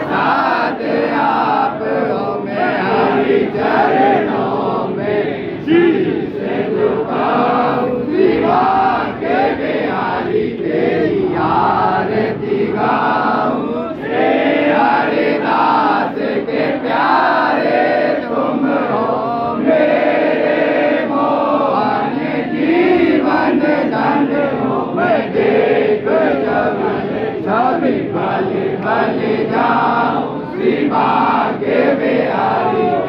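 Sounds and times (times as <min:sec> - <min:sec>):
crowd chanting and singing a hymn: 0:00.0 - 0:33.0.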